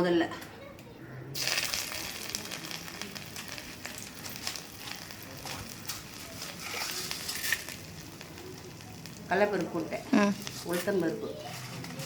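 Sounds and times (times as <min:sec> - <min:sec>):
ginger sizzling in hot oil: 0:01.4 - 0:12.0.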